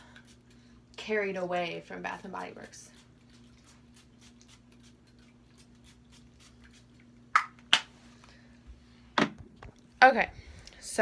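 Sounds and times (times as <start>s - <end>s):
ceiling fan hum: 0.0s - 11.0s.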